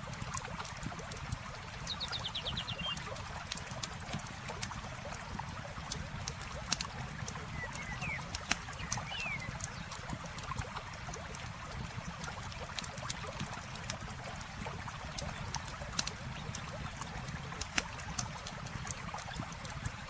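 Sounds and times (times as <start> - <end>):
campfire crackling and popping: 0.0 - 20.0
river flowing: 0.0 - 20.0.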